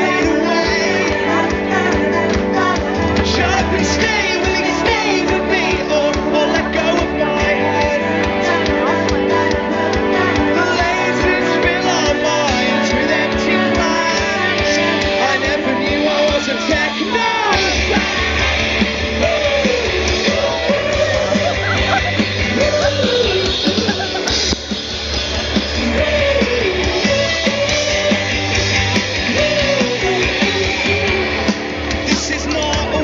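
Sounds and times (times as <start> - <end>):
person singing: 0.0 - 24.6, 25.6 - 33.0
live rock band: 0.0 - 33.0
steady drum beat: 0.0 - 33.0.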